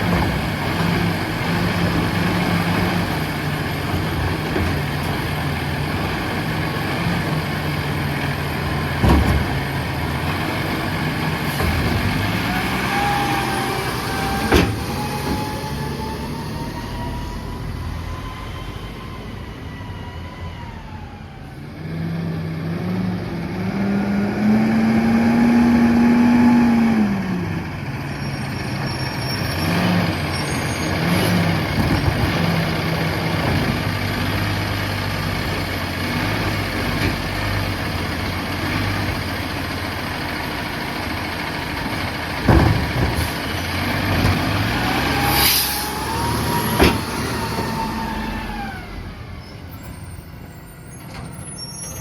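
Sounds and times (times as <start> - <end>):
truck diesel engine revving: 0.0 - 19.7, 21.6 - 51.0.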